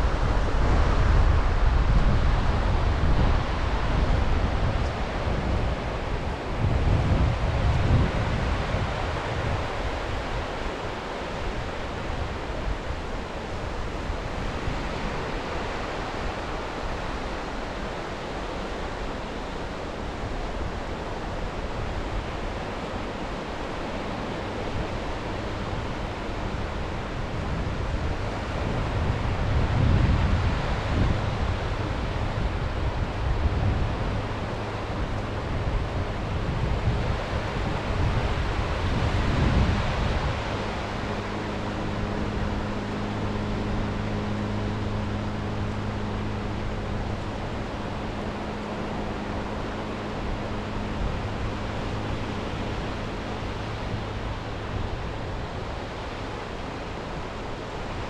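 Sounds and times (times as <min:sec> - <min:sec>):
sea waves washing on shore: 0:00.0 - 0:58.0
wind buffeting microphone: 0:00.0 - 0:58.0.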